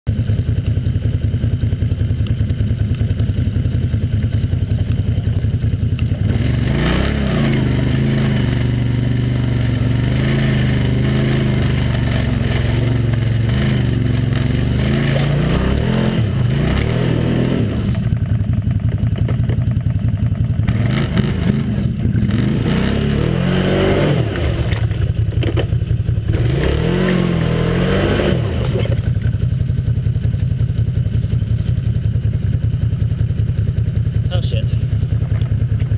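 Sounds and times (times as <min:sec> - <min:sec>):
atv engine idling and revving: 0:00.1 - 0:35.9.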